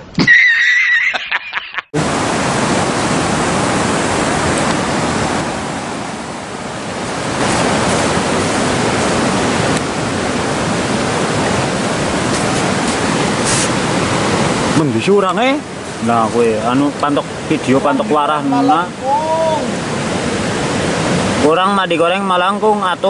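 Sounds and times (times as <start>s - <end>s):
flowing river water: 2.0s - 23.0s.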